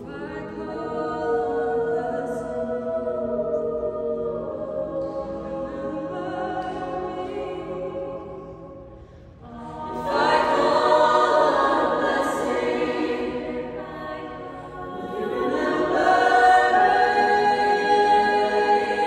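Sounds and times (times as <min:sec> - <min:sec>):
women singing in close harmony: 0:00.0 - 0:08.8, 0:09.4 - 0:19.0.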